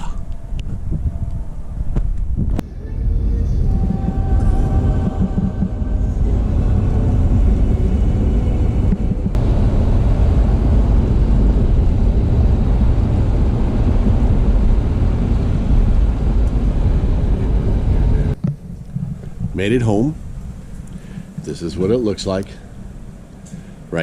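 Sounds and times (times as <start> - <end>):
car driving on road: 0.0 - 19.6.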